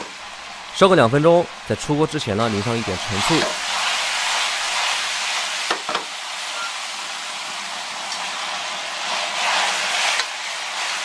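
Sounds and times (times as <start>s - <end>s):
peppers sizzling in a wok: 0.0s - 11.0s.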